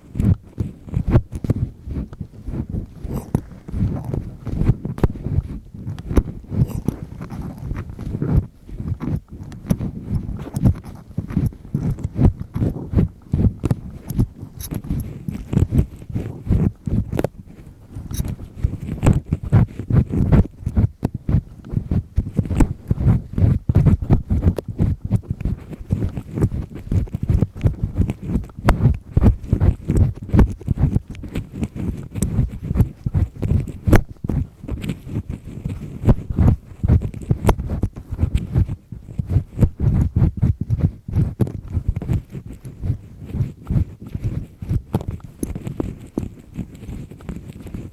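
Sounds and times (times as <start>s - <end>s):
earpick scraping in ear: 0.0s - 47.9s.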